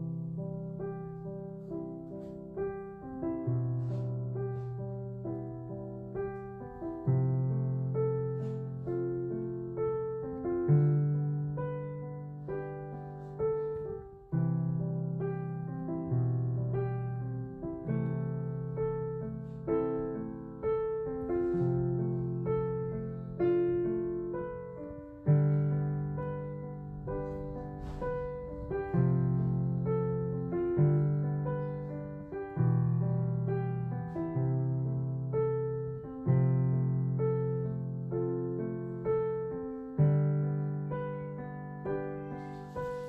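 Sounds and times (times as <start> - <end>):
gentle piano chords: 0.0 - 43.0.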